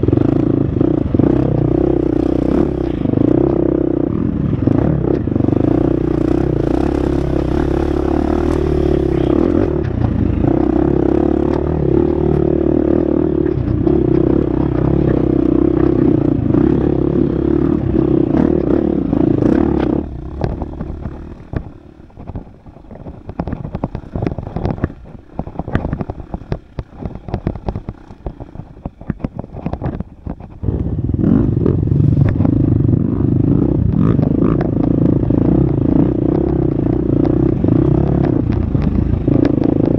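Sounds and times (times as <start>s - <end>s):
bike rattling over rough ground: 0.0s - 39.9s
dirt bike engine running: 0.0s - 39.9s.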